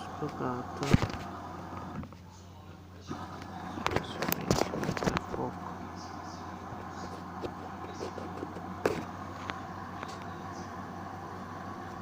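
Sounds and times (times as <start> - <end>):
washing machine hum: 0.0 - 12.0.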